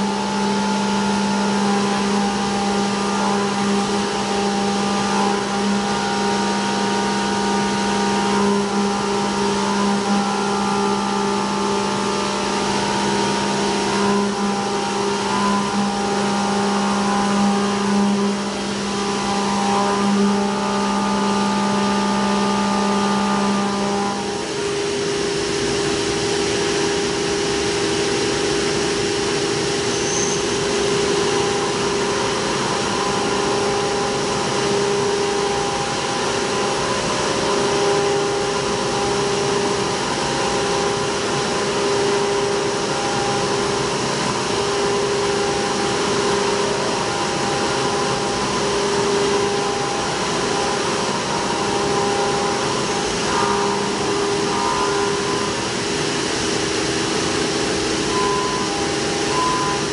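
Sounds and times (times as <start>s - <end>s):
milling machine cutting tone: 0.0s - 59.9s.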